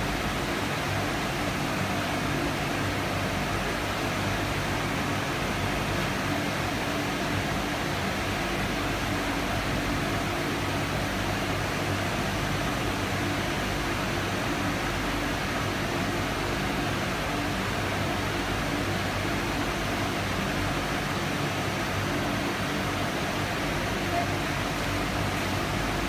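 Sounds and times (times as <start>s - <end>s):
machinery hissing and humming: 0.0s - 26.0s.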